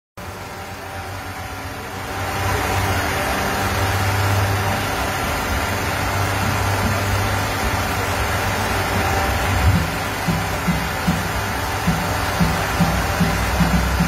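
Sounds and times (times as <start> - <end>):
street traffic hum: 0.2 - 14.0.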